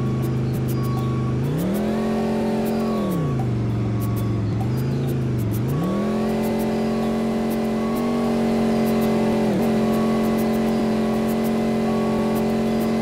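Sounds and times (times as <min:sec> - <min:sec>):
bus engine revving: 0:00.0 - 0:13.0.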